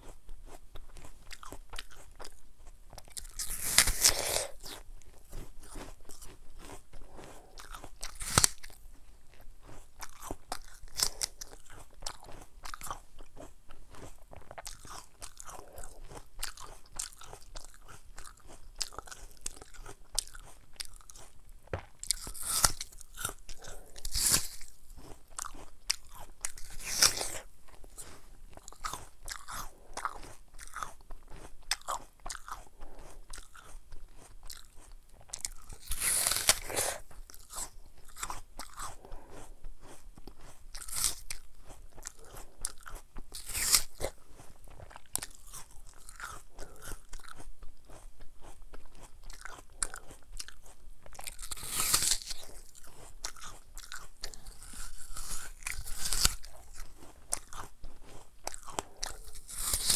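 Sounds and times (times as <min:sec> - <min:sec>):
apple being chewed: 0:00.0 - 0:59.9.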